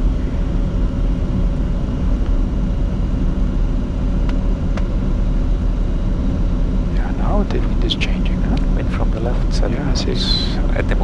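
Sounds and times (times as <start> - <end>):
airflow over aircraft: 0.0 - 11.0
jet engines: 0.0 - 11.0.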